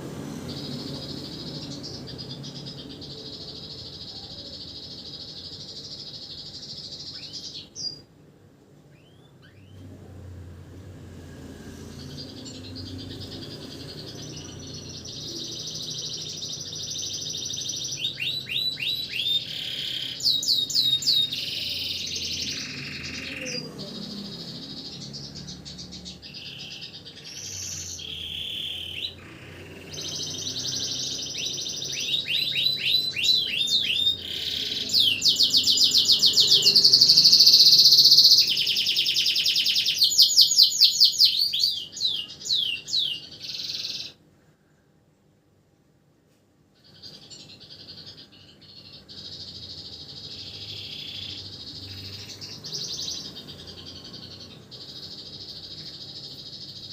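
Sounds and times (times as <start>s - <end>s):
canary singing: 0.0s - 8.1s, 8.9s - 44.3s, 46.8s - 56.9s.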